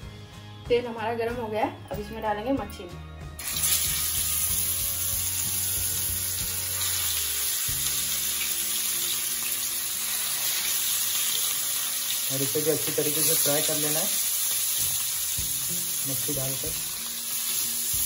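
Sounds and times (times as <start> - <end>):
fish sizzling in hot oil: 3.4 - 18.0.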